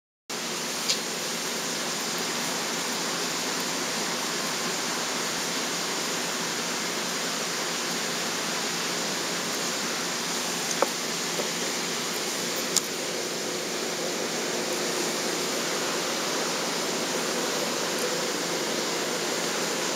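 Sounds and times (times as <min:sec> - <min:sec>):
steady hiss: 0:00.3 - 0:19.9.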